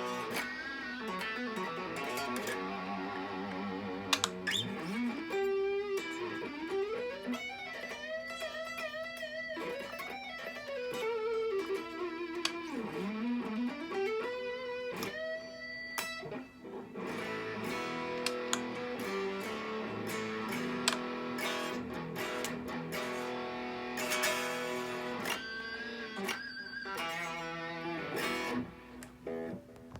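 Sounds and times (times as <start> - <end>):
electric guitar lead and chords: 0.0 - 29.9.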